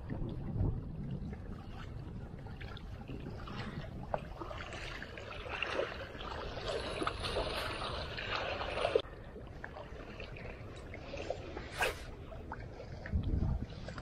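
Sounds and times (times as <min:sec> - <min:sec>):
waves lapping against rocks: 0:00.0 - 0:14.0
wind rumbling on microphone: 0:00.0 - 0:14.0.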